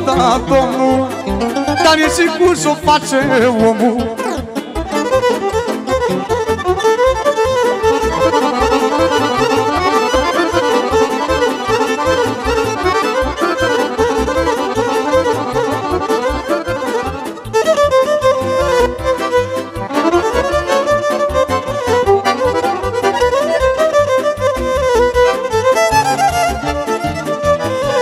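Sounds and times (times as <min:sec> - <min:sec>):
accordion fast melody: 0:00.0 - 0:28.0
keyboard bass and drum beat: 0:00.0 - 0:28.0.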